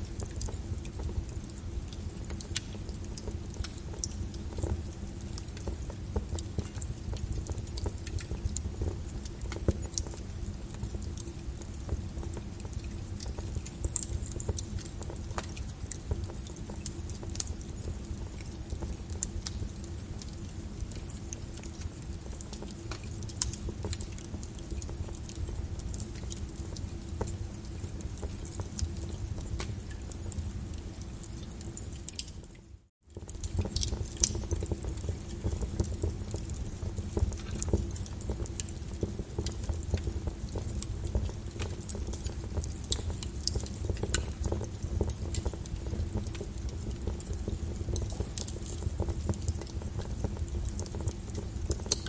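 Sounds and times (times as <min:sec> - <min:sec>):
fire popping and snapping: 0:00.0 - 0:52.0
wood fire rumbling: 0:00.0 - 0:52.0.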